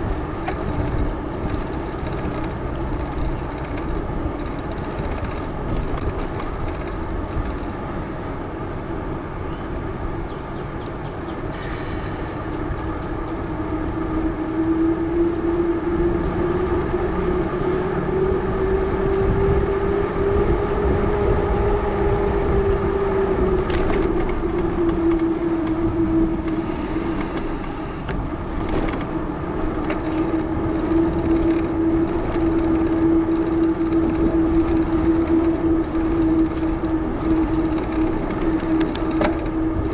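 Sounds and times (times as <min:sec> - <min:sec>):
bicycle tire hum on pavement: 0:00.0 - 0:39.9.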